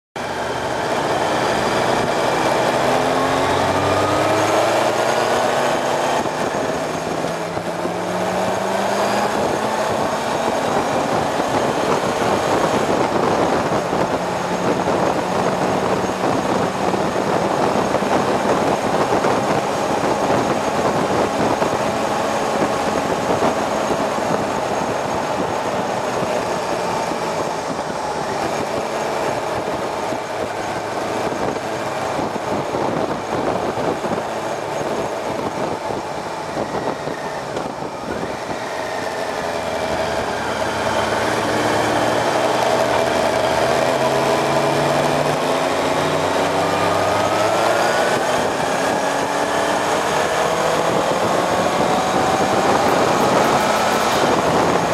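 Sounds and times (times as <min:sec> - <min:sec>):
heavy wind rush: 0:00.2 - 0:54.9
motorcycle engine accelerating: 0:00.2 - 0:54.9.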